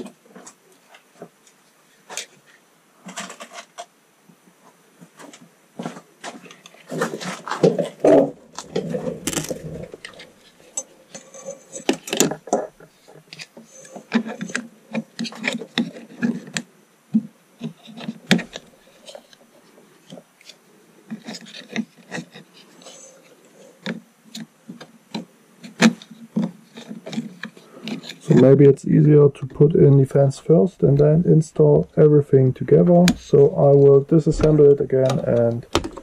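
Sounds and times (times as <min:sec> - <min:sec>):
plastic parts clicking and rubbing: 0:00.0 - 0:03.9, 0:05.2 - 0:28.8, 0:32.7 - 0:36.0.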